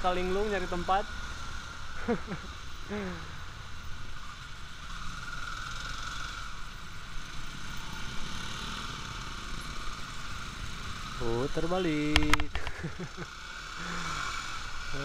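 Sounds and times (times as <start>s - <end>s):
motorcycle engine running: 0.0s - 15.0s
road and traffic noise: 0.0s - 15.0s.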